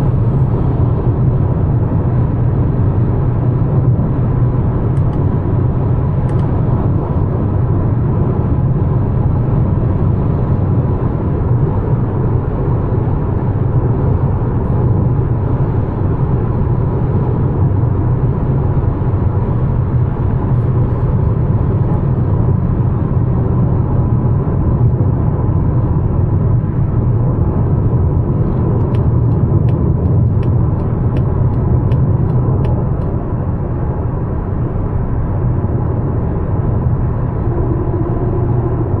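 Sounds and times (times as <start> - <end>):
car cabin road rumble: 0.0 - 39.0.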